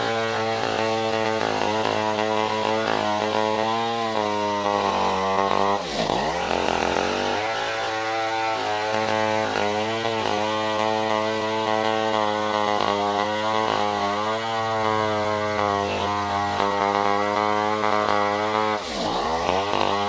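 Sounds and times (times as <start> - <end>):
chainsaw cutting through log: 0.0 - 20.0.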